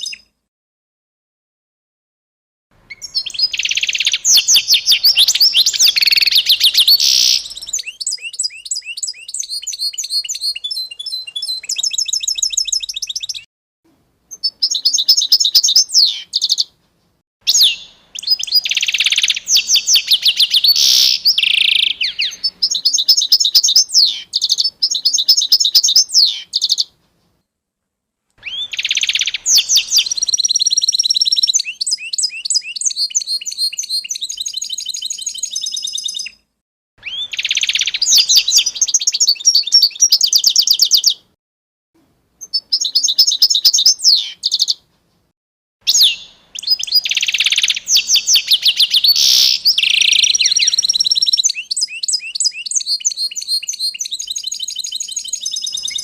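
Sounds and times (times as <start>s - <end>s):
songbirds chirping and singing: 2.9s - 13.5s, 14.3s - 16.8s, 17.5s - 27.0s, 28.4s - 36.4s, 37.0s - 41.3s, 42.4s - 44.8s, 45.9s - 56.0s.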